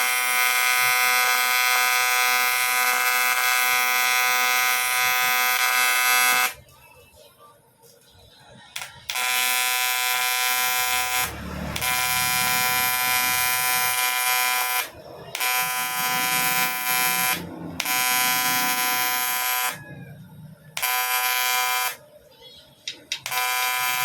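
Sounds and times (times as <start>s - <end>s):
welding arc buzzing: 0.0s - 6.6s, 8.8s - 19.8s, 20.7s - 22.0s, 22.9s - 24.0s.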